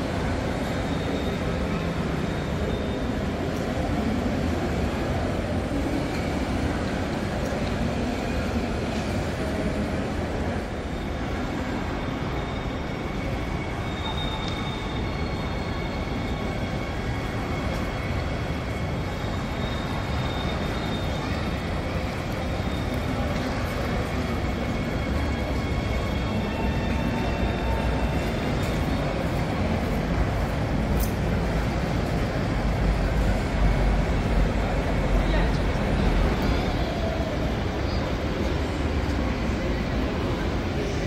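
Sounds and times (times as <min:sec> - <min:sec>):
train rumbling: 0:00.0 - 0:41.0.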